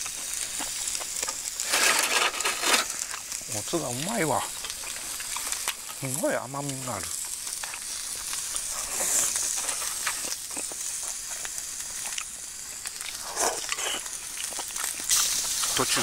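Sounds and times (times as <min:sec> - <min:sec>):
meat sizzling on a grill pan: 0:00.0 - 0:16.0.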